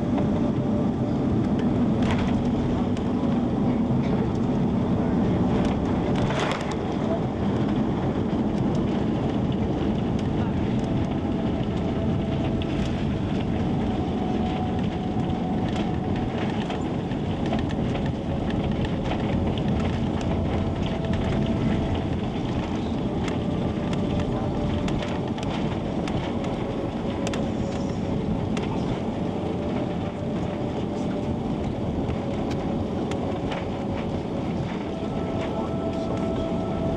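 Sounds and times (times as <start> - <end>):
aircraft cabin engine roar: 0.0 - 36.9
wheels on runway: 0.0 - 36.9.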